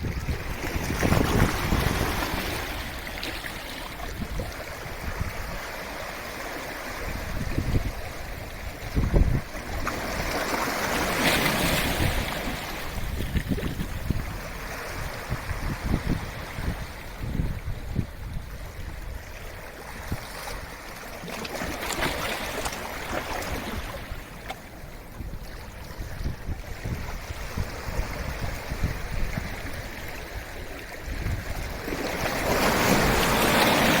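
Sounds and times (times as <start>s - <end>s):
wind buffeting microphone: 0.0s - 5.8s, 7.0s - 10.4s, 11.0s - 20.8s, 25.0s - 34.0s
sea waves washing ashore: 0.0s - 34.0s.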